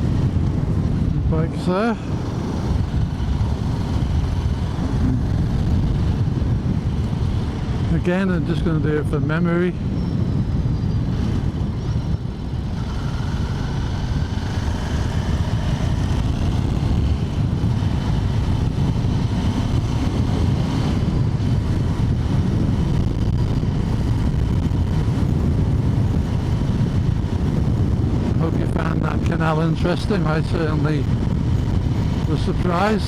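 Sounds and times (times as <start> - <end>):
motorcycle engine accelerating: 0.0 - 8.5, 9.9 - 29.4
wind rumble on microphone: 0.0 - 33.0.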